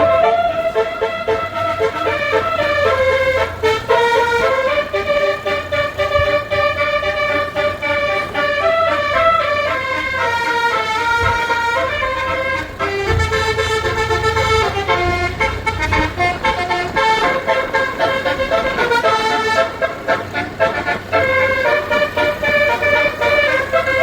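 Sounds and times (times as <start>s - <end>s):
multi-tone horn playing a melody: 0.0s - 24.0s.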